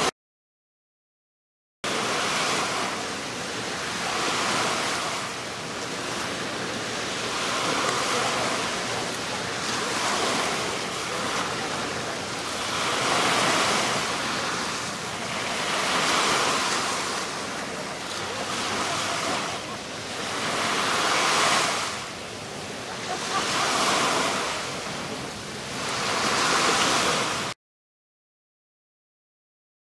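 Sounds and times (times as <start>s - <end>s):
sea waves washing in: 1.8s - 27.6s.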